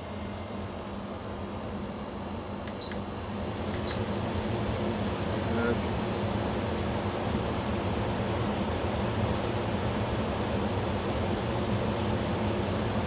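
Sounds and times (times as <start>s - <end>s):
air conditioner fan droning: 0.0s - 13.0s.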